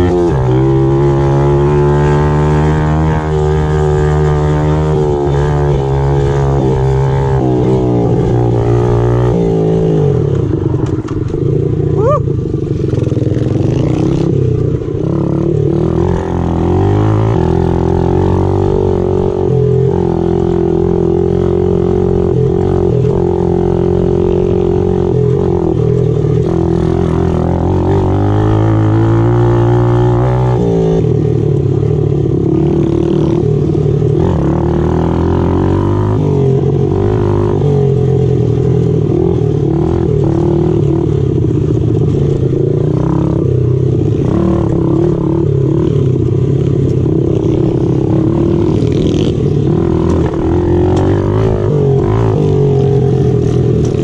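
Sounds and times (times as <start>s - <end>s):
pit bike engine running: 0.0s - 54.0s.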